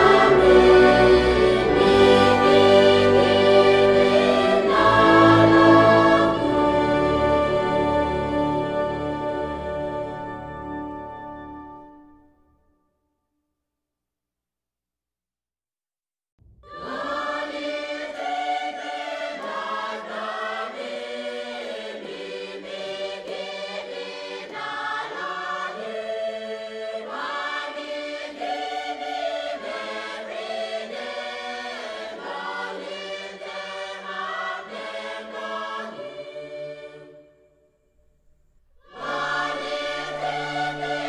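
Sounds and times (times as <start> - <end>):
choir singing sustained chords: 0.0 - 12.4, 16.6 - 37.6, 38.7 - 41.0.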